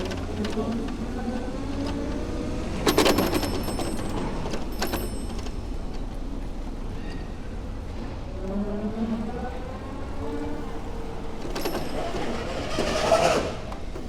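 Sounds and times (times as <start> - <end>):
traffic rumble: 0.0 - 14.0
vehicle engine rising: 0.0 - 14.0
wind: 0.0 - 14.0.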